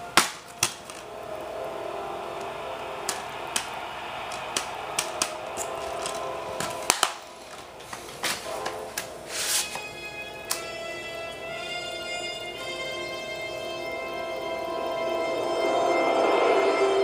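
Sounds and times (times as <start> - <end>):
trailer music through tv speaker: 0.0 - 17.0
steady low tone: 0.8 - 17.0.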